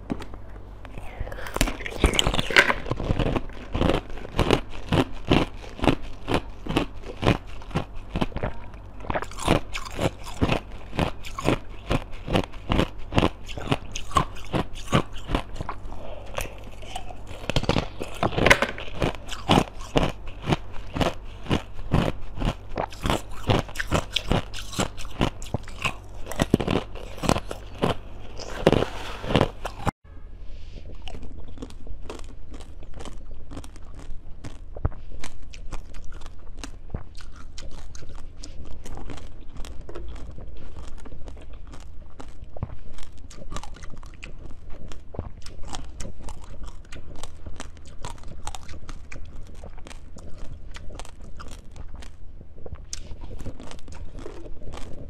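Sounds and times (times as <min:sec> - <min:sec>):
crunching candy: 0:00.0 - 0:29.9, 0:30.9 - 0:55.0
steady low hum: 0:00.0 - 0:55.0.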